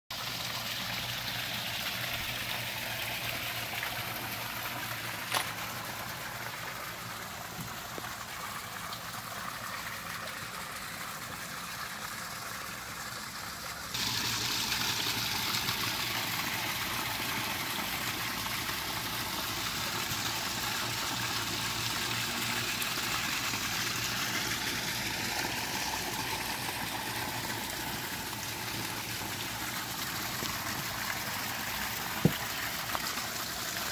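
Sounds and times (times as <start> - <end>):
small waterfall splashing into pond: 0.1 - 33.9.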